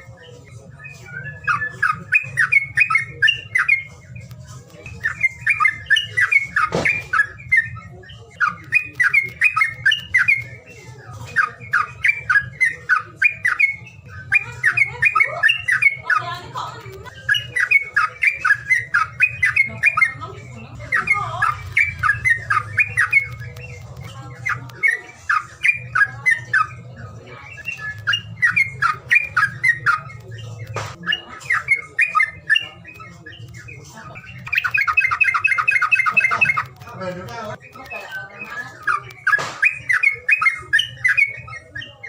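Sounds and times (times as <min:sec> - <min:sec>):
songbird chirping and trilling: 0:00.0 - 0:42.0.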